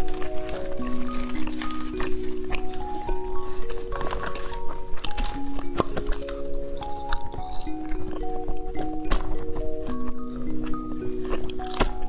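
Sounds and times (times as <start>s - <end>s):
music of held notes: 0.0s - 12.0s.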